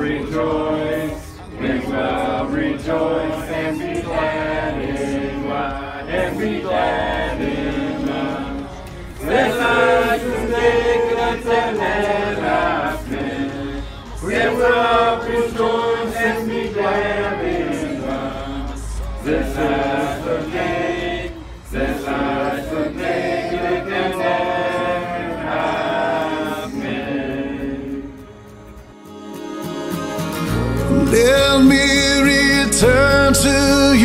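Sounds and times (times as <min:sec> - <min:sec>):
group singing without instruments: 0:00.0 - 0:34.0.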